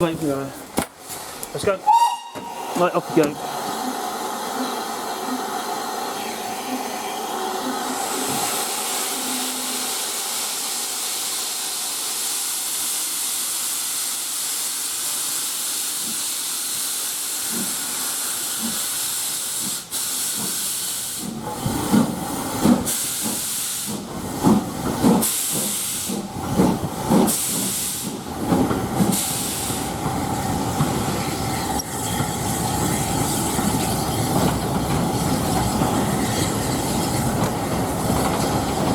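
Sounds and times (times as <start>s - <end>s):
steam locomotive hissing steam: 1.6s - 38.9s
steam locomotive exhaust chuffs: 7.6s - 38.9s.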